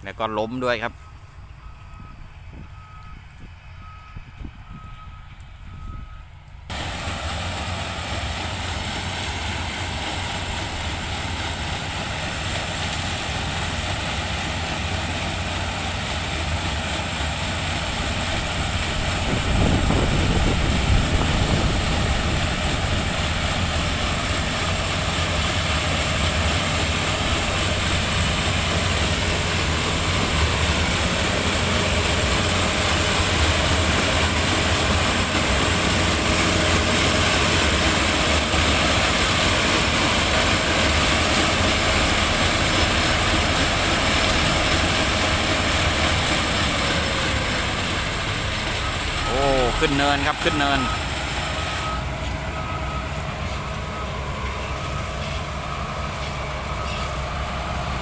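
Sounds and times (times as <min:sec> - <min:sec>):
harvester diesel engine under load: 0:00.0 - 0:58.0.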